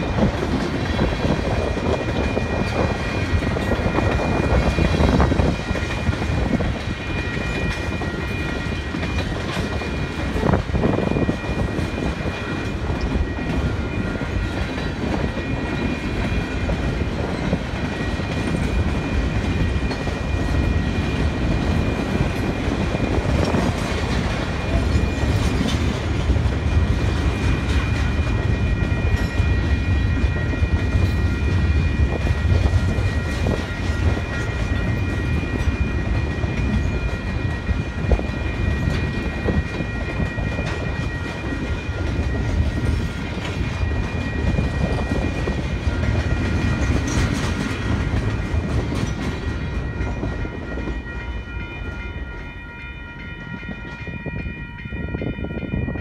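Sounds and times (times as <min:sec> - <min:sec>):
train wheels clacking over rail joints: 0:00.0 - 0:51.3
crossing signal bell ringing: 0:00.0 - 0:56.0
low train rumble: 0:00.0 - 0:56.0.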